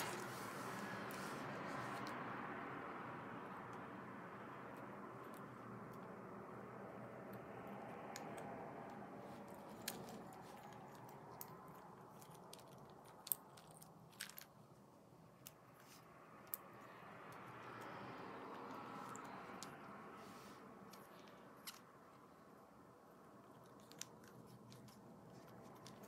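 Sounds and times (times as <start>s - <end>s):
low room noise: 0.0s - 26.0s.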